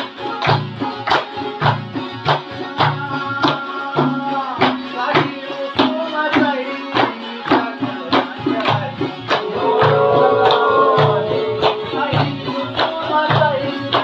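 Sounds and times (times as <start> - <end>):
plucked lutes playing folk music: 0.0 - 14.0
steady percussive beat: 0.0 - 14.0
man singing: 2.7 - 14.0.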